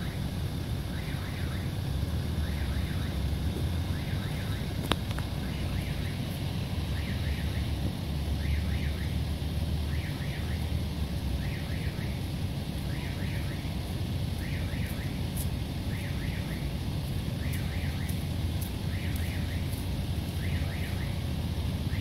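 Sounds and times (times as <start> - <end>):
level crossing warning chirps: 0.0 - 22.0
steady low rumble: 0.0 - 22.0.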